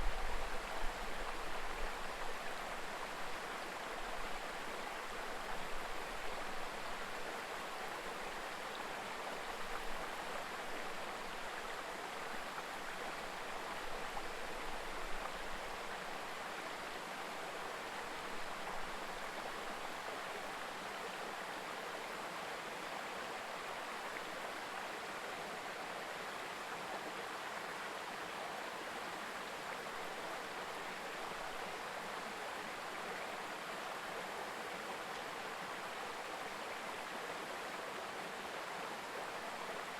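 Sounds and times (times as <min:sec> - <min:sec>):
river babbling: 0:00.1 - 0:39.9.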